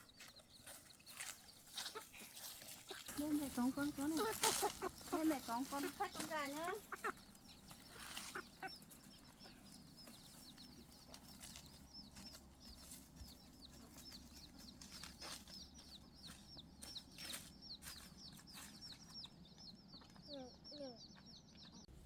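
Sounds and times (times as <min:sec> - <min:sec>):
chicken peeping: 0:00.0 - 0:22.0.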